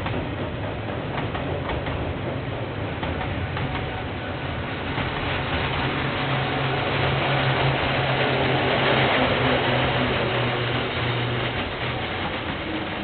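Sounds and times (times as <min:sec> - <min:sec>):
diesel locomotive engine drone: 0:00.0 - 0:13.0
train rumbling: 0:00.0 - 0:13.0.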